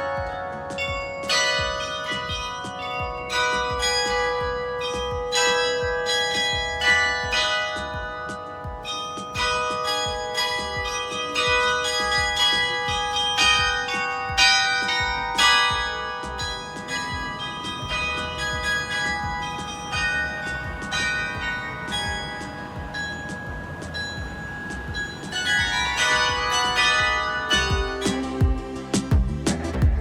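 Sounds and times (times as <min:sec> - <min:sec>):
tower bells ringing: 0:00.0 - 0:28.8.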